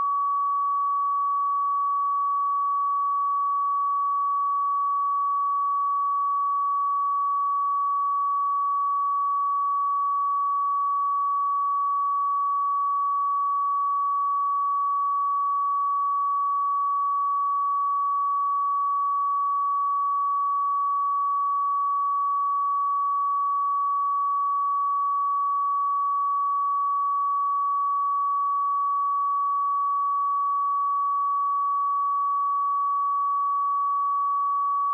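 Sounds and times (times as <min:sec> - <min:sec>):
sine-wave test tone: 0:00.0 - 0:34.9.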